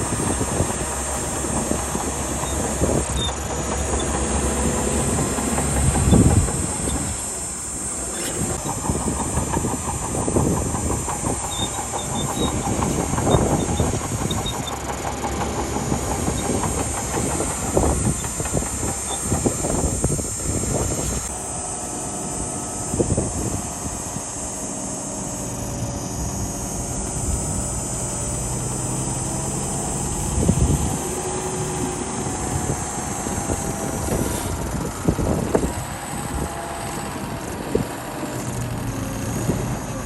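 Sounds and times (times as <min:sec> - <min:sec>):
steel tracks clanking and rattling: 0:00.0 - 0:24.2, 0:27.1 - 0:40.0
bulldozer diesel engine: 0:00.0 - 0:40.0.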